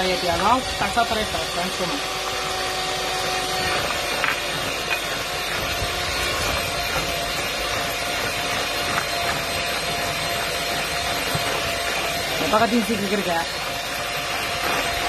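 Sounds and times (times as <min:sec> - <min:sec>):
beaters churning thick batter: 0:00.0 - 0:15.0
electric hand mixer running: 0:00.0 - 0:15.0.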